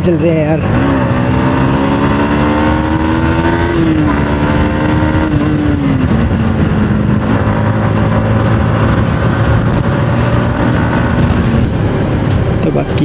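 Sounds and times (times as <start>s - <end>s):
motorcycle engine running: 0.0s - 13.0s
wind rumble on microphone: 0.2s - 13.0s.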